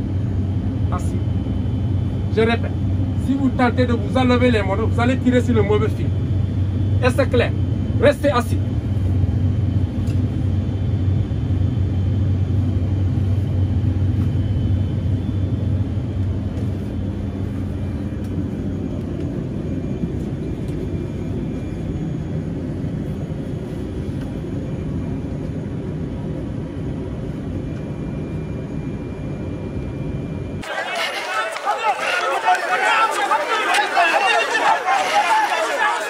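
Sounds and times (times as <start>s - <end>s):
aircraft engines rumbling: 0.0s - 36.0s.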